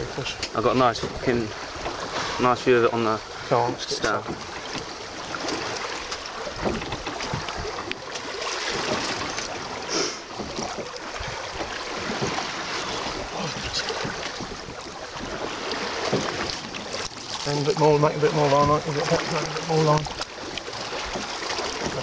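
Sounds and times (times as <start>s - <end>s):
water slapping against boat: 0.0s - 22.0s.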